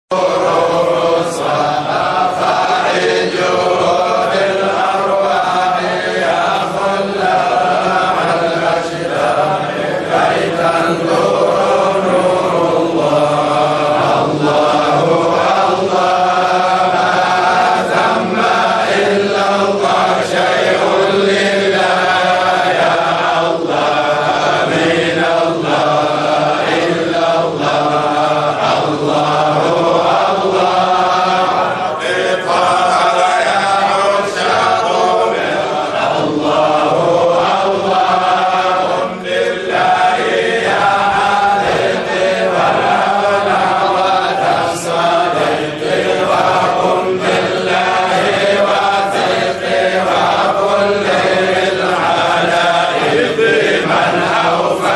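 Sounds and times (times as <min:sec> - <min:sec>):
group chanting: 0:00.1 - 0:54.9.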